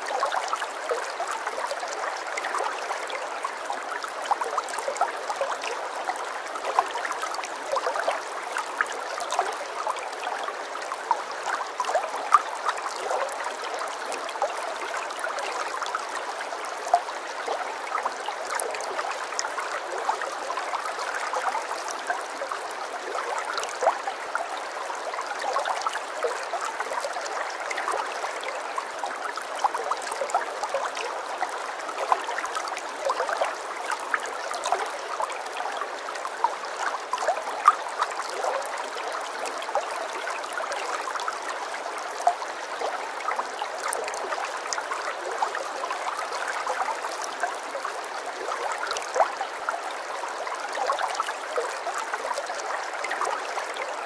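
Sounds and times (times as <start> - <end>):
stream trickling and gurgling: 0.0 - 54.0.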